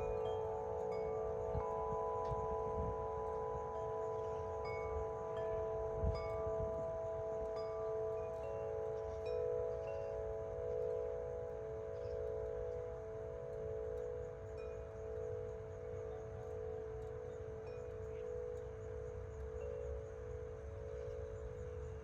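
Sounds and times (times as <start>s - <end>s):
tubular wind chimes ringing: 0.0s - 22.0s
wind rumbling on microphone: 0.0s - 22.0s.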